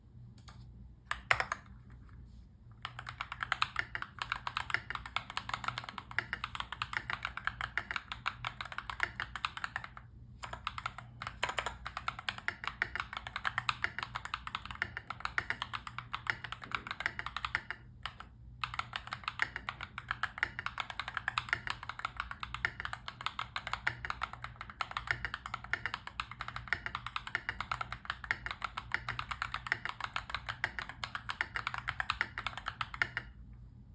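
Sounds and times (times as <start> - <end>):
faint low hum: 0.0 - 33.9
fast typing on mechanical keyboard: 1.1 - 1.7, 2.8 - 33.4.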